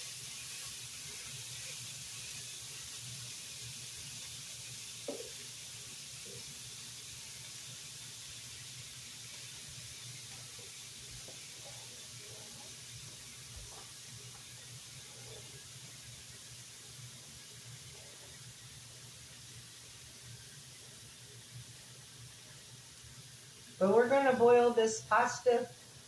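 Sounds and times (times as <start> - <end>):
meat sizzling in a pan: 0.0 - 26.0
pot of water boiling: 0.0 - 26.0.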